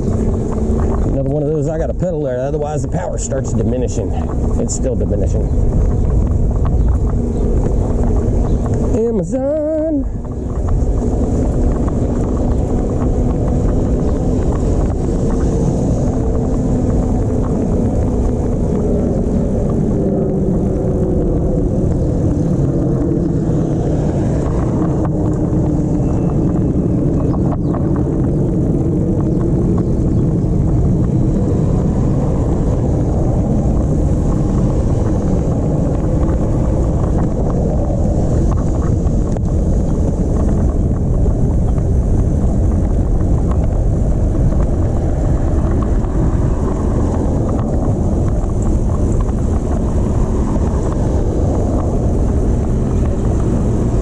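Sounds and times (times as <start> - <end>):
road rumble: 0.0 - 54.0
wind rush: 0.0 - 54.0.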